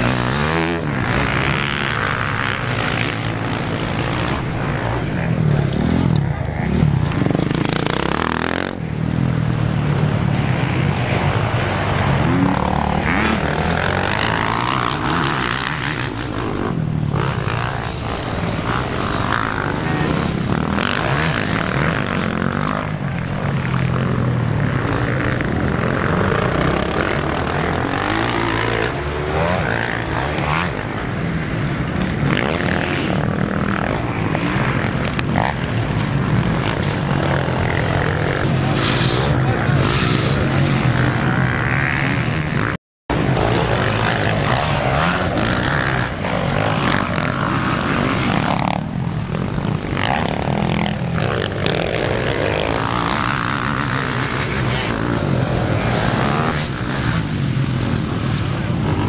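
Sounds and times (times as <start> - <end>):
motocross engines revving: 0.0 - 59.0.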